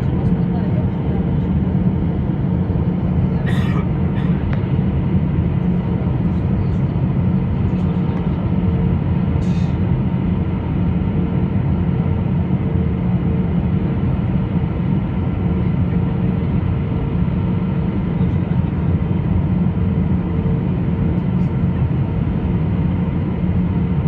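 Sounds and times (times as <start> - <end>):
engine and airflow rumble: 0.0 - 24.0.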